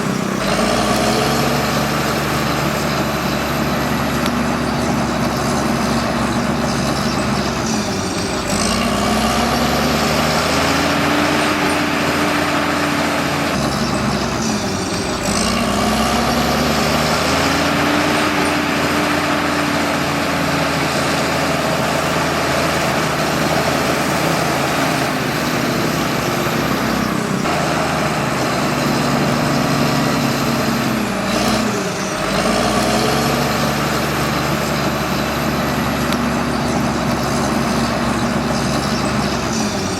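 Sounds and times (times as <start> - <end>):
bulldozer diesel engine labouring: 0.0 - 39.9.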